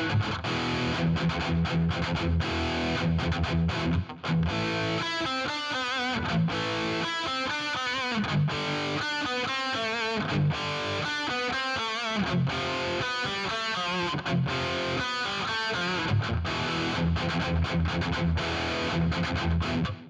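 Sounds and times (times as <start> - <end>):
distorted electric guitar riff: 0.0 - 20.0.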